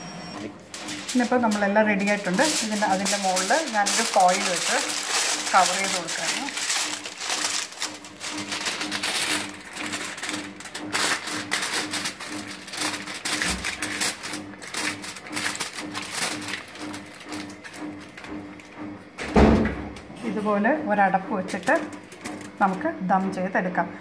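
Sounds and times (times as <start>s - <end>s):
aluminium foil crinkling: 0.7s - 18.7s, 21.5s - 22.8s.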